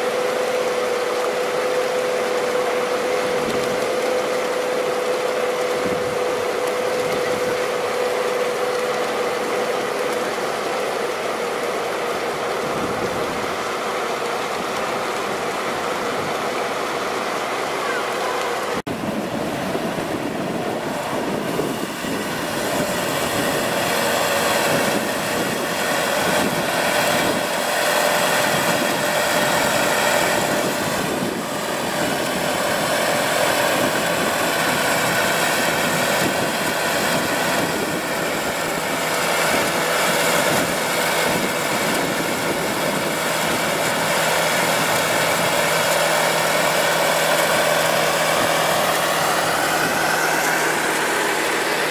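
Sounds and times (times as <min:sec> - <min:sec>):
pickup engine running steadily: 0:00.0 - 0:51.9.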